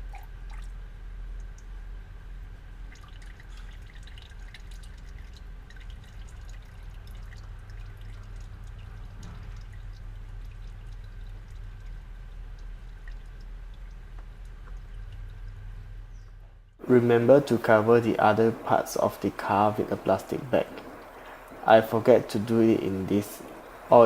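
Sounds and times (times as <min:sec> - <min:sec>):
oil dripping and trickling: 0:00.0 - 0:24.0
steady low hum: 0:00.0 - 0:24.0.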